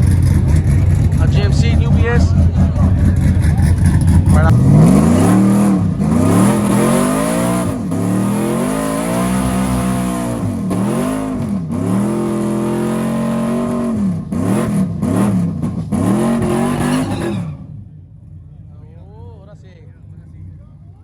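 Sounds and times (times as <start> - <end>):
truck engines at full throttle: 0.0 - 21.0.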